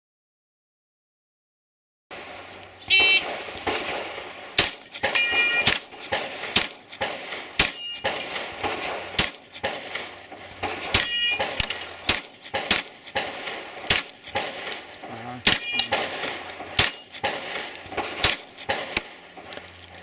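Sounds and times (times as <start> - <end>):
gunshots: 2.1 - 19.6
steel targets ringing: 2.9 - 19.2.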